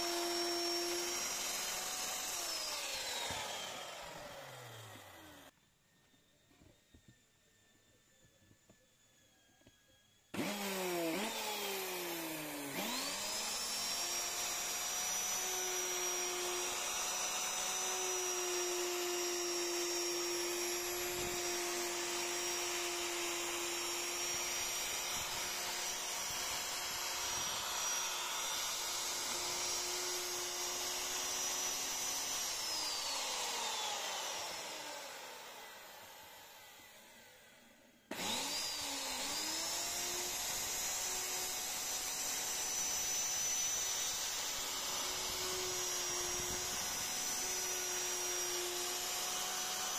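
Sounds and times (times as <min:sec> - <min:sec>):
electric router whining: 0:00.0 - 0:05.5, 0:08.6 - 0:49.9
router bit cutting wood: 0:00.0 - 0:05.5, 0:10.4 - 0:49.9.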